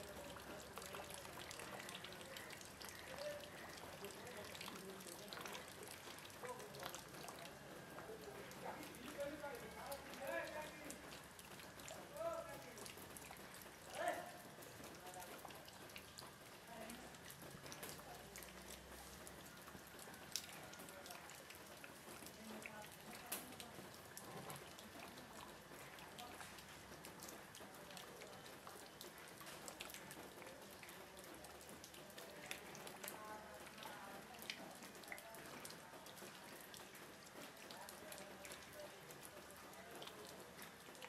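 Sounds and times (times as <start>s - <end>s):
light rain hiss: 0.0s - 41.0s
water drops ticking on leaves: 0.0s - 41.0s.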